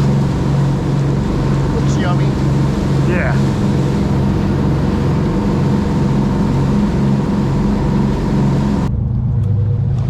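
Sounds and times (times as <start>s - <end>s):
boat engine idling: 0.0s - 10.0s
steady rushing noise: 0.0s - 10.0s.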